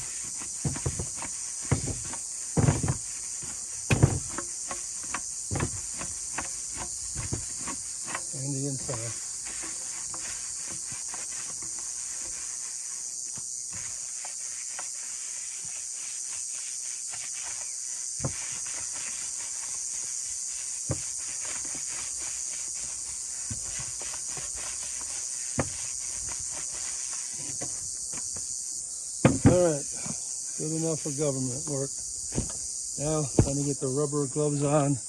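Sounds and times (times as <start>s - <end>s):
brushing drum shell: 0.0s - 28.6s, 29.2s - 34.9s
high-pitched hiss: 0.0s - 35.0s.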